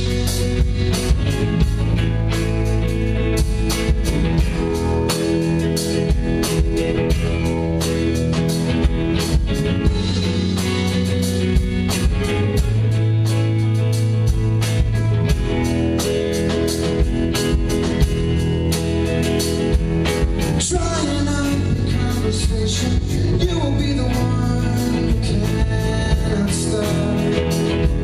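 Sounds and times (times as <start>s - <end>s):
drum kit beat: 0.0s - 28.0s
electric guitars: 0.0s - 28.0s.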